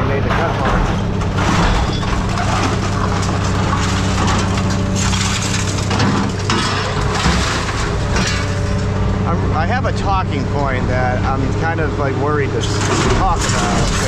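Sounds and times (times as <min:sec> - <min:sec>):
scrap metal baler drone: 0:00.0 - 0:14.0
scrap metal crunching: 0:00.0 - 0:14.0.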